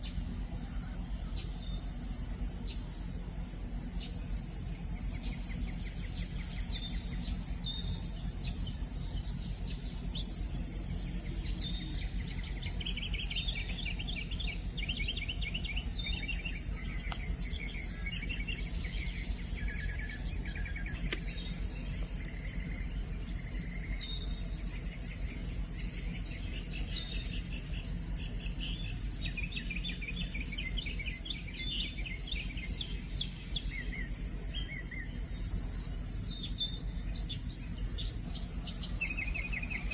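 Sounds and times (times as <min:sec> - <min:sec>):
insect buzz: 0:00.0 - 0:39.9
insects trilling: 0:00.0 - 0:39.9
songbird chirping: 0:00.0 - 0:39.9.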